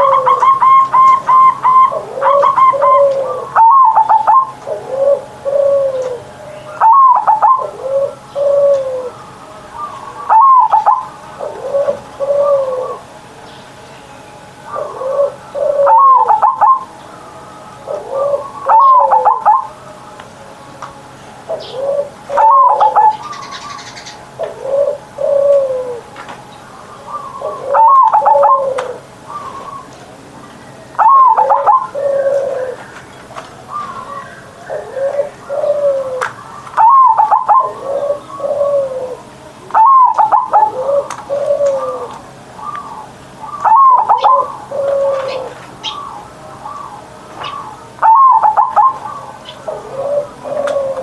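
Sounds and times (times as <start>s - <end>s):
dove cooing: 0.0s - 13.5s, 14.5s - 20.2s, 21.4s - 51.0s.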